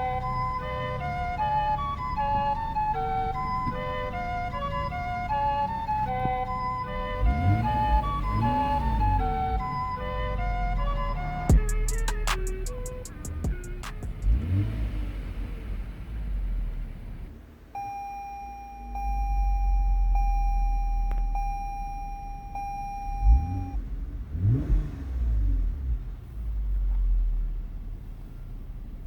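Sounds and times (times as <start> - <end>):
car exhaust rumbling: 0.0 - 17.9, 18.5 - 29.0.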